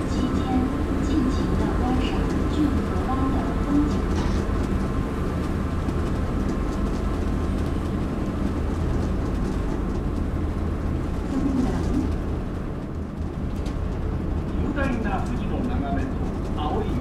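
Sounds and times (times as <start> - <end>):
ferry rumble and rushing water: 0.0 - 17.0.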